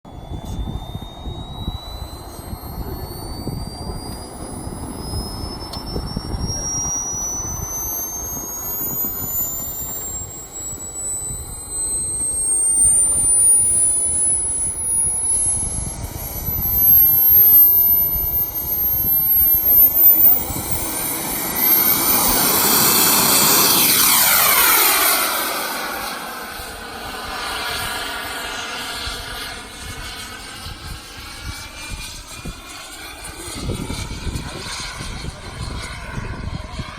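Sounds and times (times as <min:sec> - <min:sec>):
model jet turbine whine: 0:00.0 - 0:36.9
jet rushing pass: 0:00.1 - 0:36.5.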